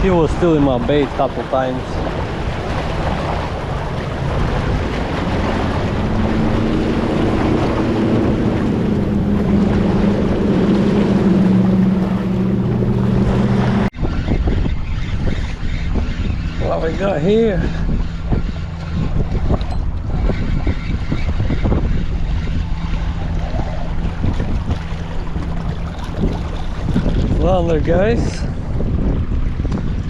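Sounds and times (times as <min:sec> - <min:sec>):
motorboat engine drone: 0:00.0 - 0:30.0
surf against jetty: 0:00.0 - 0:30.0
wind buffeting microphone: 0:00.0 - 0:30.0.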